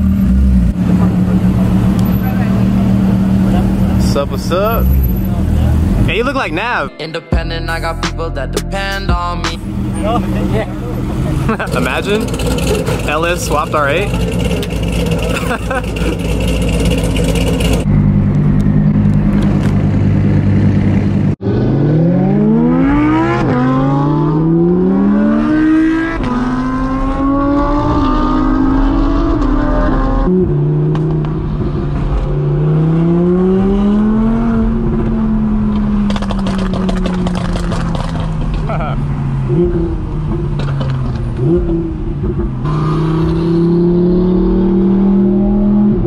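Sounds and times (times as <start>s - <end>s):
sports car engine accelerating: 0.0s - 6.7s, 7.6s - 46.0s.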